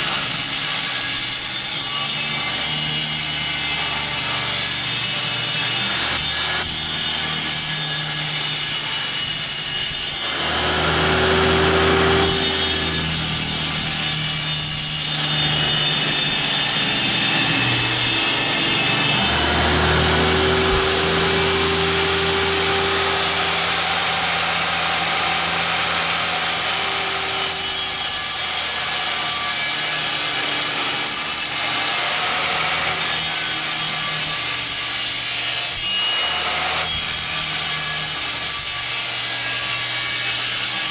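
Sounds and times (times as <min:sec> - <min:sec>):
power saw cutting wood: 0:00.0 - 0:40.9.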